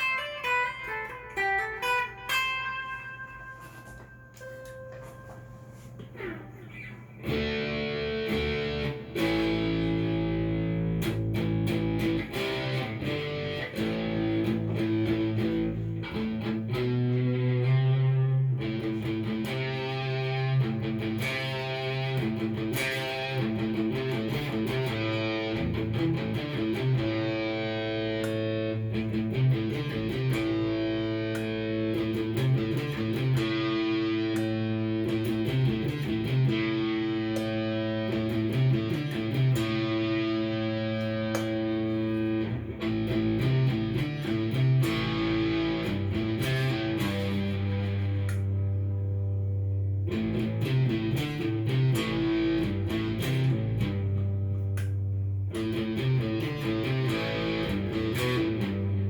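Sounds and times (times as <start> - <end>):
electric guitar chords and notes: 0.0 - 59.0.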